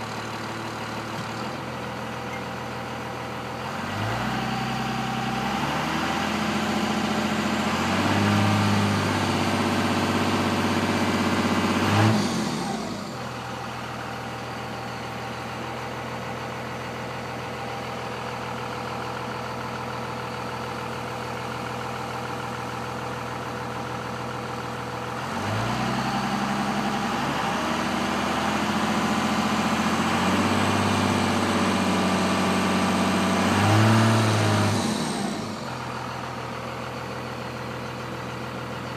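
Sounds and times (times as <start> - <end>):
diesel engine revving and idling: 0.0 - 38.9.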